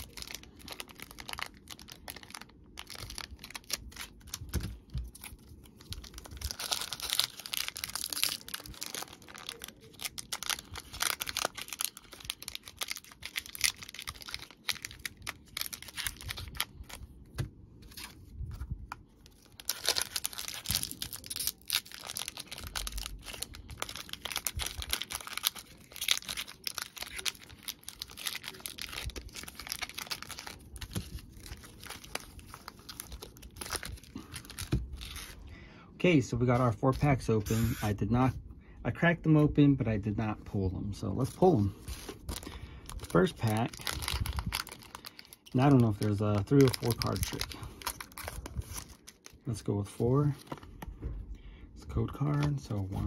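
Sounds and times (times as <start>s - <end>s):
foil wrappers crinkling and tearing: 0.0s - 17.1s, 19.2s - 35.4s, 41.1s - 50.9s.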